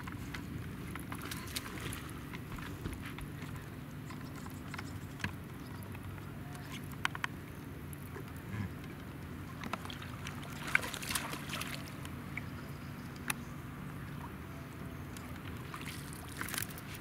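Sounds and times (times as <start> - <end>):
low steady rumble: 0.0 - 17.0
water lapping against boat hull: 0.0 - 17.0.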